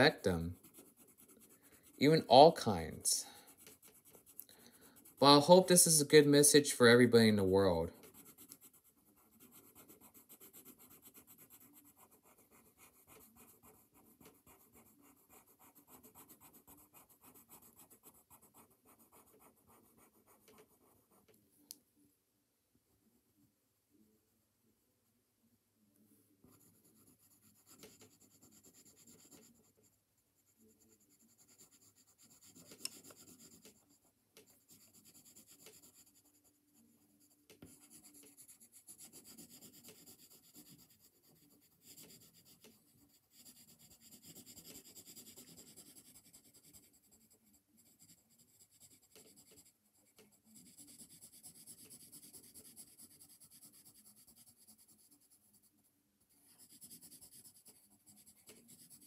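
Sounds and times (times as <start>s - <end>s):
pencil scratching on paper: 0.0s - 21.4s, 26.4s - 59.0s.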